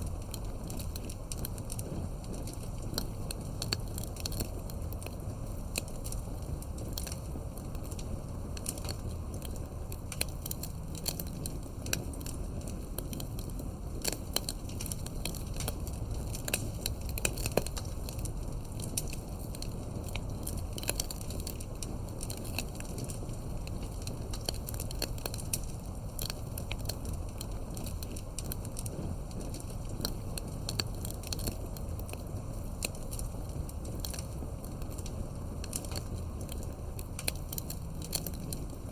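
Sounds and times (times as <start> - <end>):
campfire crackling and popping: 0.0 - 38.9
low rumble of flames: 0.0 - 38.9.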